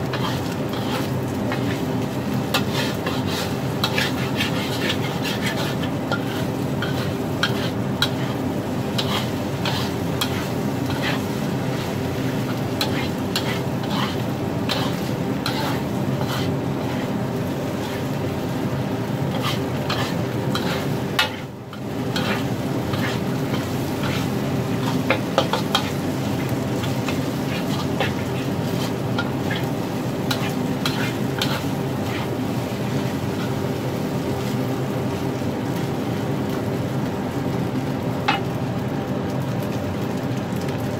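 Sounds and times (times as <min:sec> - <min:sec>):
metal spatula scraping wok: 0:00.0 - 0:33.9
rice sizzling: 0:00.0 - 0:40.9.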